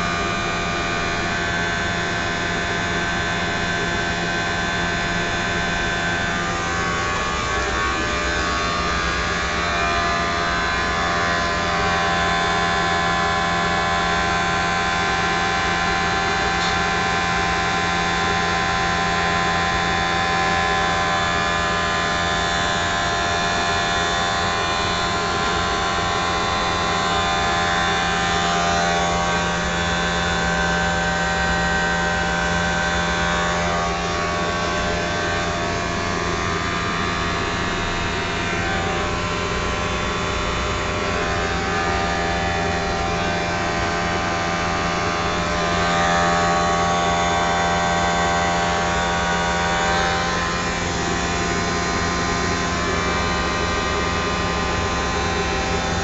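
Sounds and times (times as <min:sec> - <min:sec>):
blower motor humming and whining: 0:00.0 - 0:56.0.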